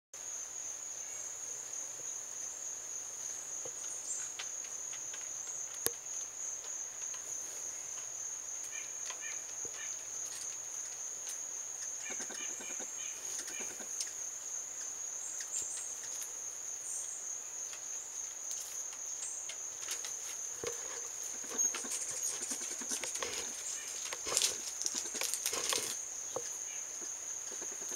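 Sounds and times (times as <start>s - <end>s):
insects chirping in chorus: 0.2s - 27.9s.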